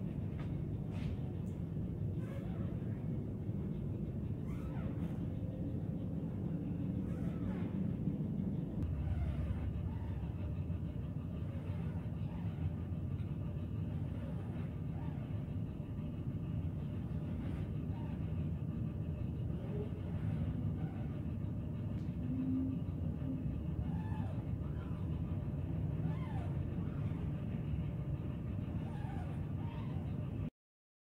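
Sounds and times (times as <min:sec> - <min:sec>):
steady low rumble: 0:00.0 - 0:30.5.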